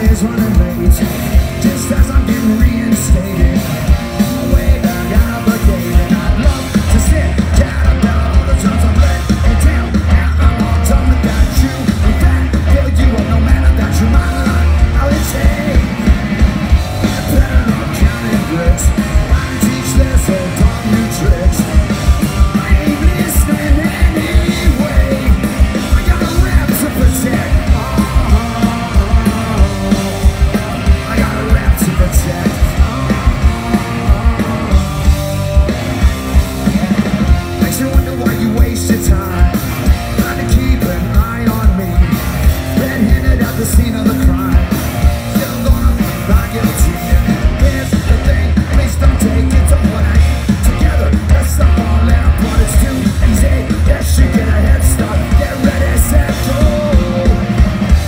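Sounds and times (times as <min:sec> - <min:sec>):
electric guitars: 0:00.0 - 0:58.0
fast drumbeat: 0:00.0 - 0:58.0
punk rock band playing: 0:00.0 - 0:58.0.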